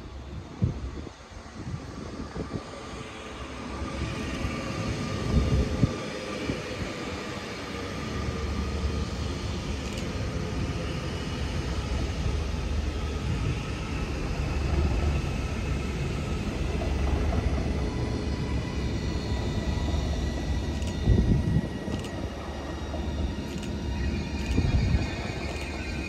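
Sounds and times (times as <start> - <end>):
steady whining tones: 0.0 - 26.0
train rumbling: 0.0 - 26.0.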